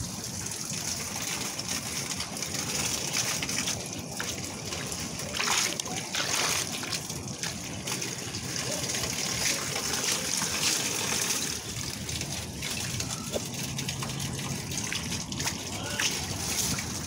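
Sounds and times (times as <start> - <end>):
water draining through drain grate: 0.0 - 17.0.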